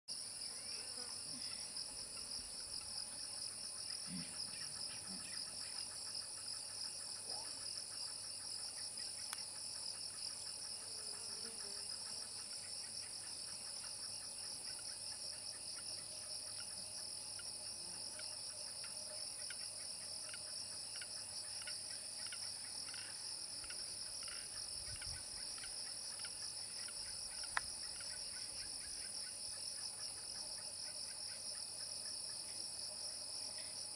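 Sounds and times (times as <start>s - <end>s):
faint insect calls: 0.1s - 33.9s
insect chorus shrill drone: 0.1s - 33.9s.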